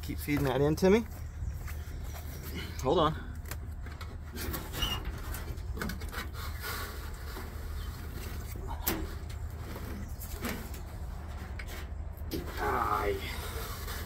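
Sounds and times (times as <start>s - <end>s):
wiring rustling and scraping: 0.1s - 14.0s.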